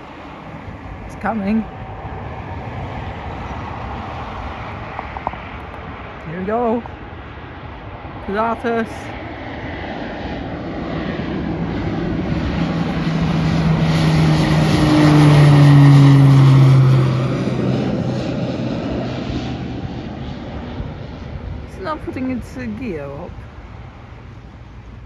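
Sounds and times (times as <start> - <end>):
turboprop plane passing: 0.0 - 25.0.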